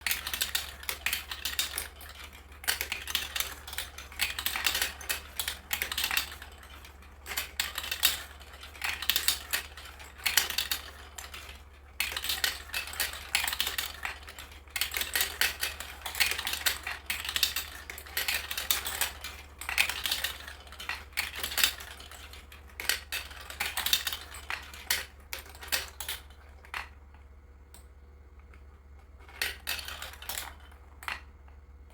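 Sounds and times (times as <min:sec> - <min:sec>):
marbles clattering down plastic tracks: 0:00.0 - 0:27.0, 0:29.2 - 0:31.3.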